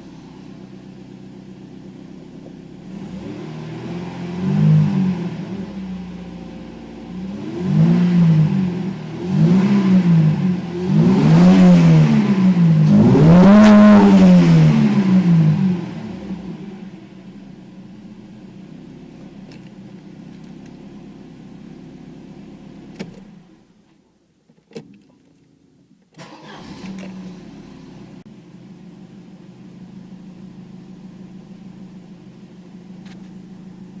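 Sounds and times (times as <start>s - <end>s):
car engine idling: 0.0s - 24.4s, 25.0s - 34.0s.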